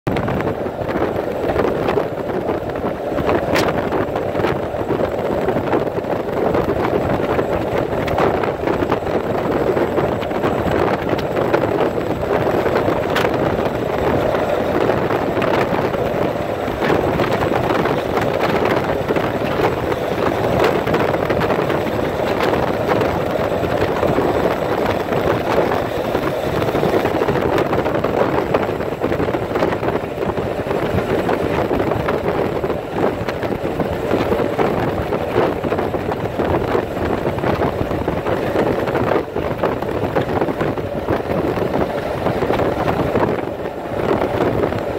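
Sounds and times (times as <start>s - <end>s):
tyre and wind road noise: 0.0s - 44.9s.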